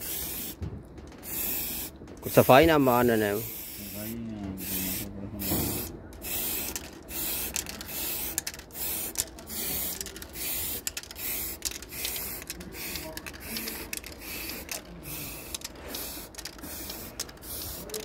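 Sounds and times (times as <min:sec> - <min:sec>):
spray-paint can hissing: 0:00.0 - 0:00.6, 0:01.2 - 0:18.0.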